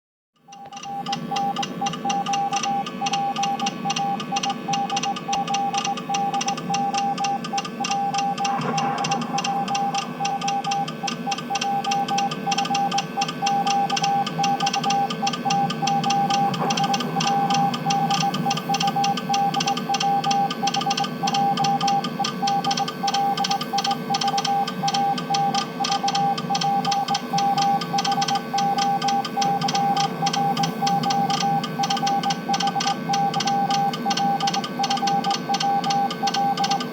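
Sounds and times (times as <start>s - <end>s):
morse code beeping: 0.5s - 36.9s.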